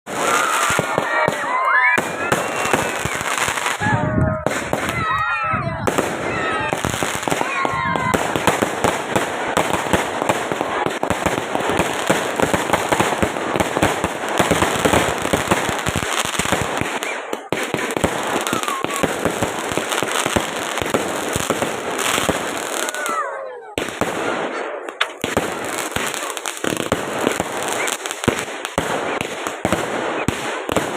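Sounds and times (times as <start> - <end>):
fireworks banging and crackling: 0.0 - 30.9.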